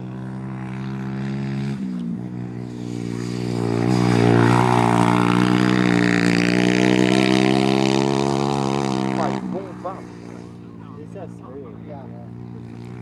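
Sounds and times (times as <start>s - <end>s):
pit bike engine at high revs: 0.0s - 13.0s.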